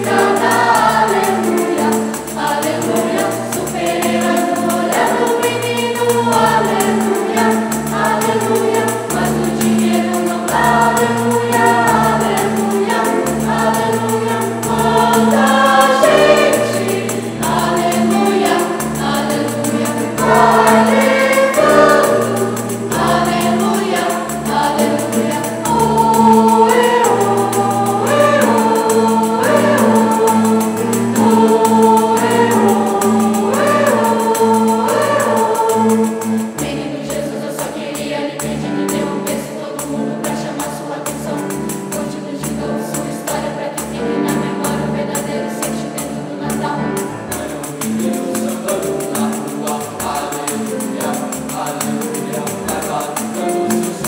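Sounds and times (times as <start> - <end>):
choir singing: 0.0 - 54.0
tambourine rhythm: 0.0 - 54.0.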